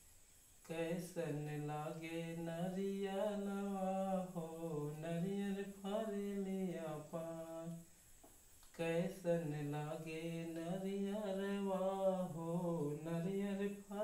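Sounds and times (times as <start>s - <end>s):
man singing long held notes: 0.6s - 7.9s, 8.7s - 14.0s.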